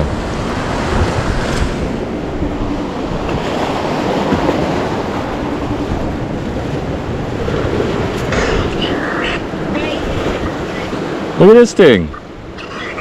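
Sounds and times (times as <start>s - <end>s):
wind buffeting microphone: 0.0s - 11.4s
ocean surf washing on shore: 0.0s - 13.0s.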